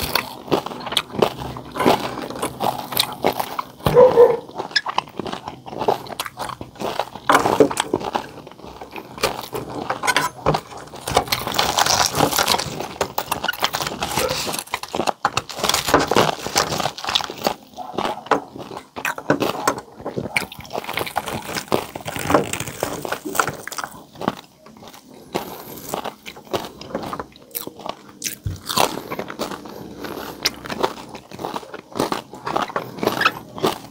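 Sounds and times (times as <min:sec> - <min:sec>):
crunchy chewing: 0:00.0 - 0:33.9.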